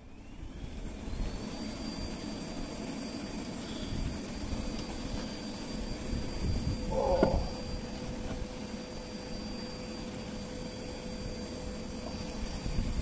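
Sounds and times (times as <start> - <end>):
pc fan whining: 0.0 - 13.0.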